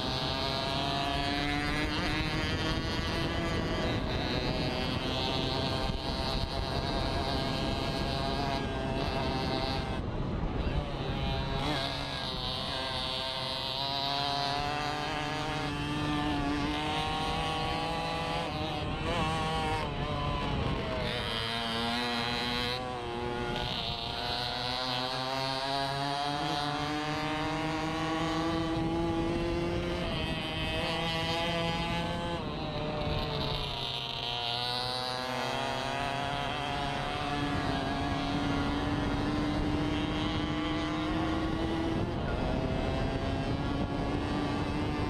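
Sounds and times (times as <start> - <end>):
moped engines revving high: 0.0 - 45.0.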